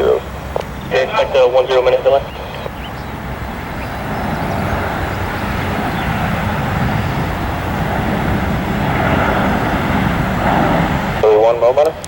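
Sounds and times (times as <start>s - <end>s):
jet engine rumble and roar: 0.0s - 12.0s.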